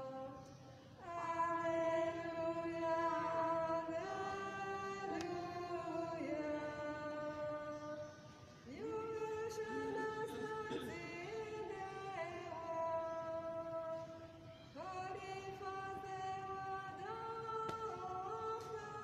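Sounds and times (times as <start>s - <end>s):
voices singing liturgical chant: 0.0s - 19.0s.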